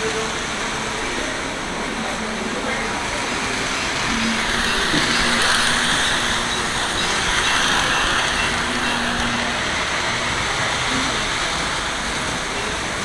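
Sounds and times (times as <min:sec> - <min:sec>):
model trains whirring and rattling: 0:00.0 - 0:13.0.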